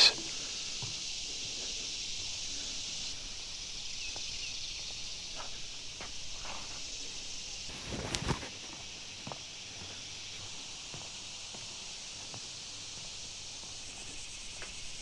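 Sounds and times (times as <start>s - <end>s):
high-pitched insect chorus: 0.0s - 7.7s, 8.9s - 15.0s.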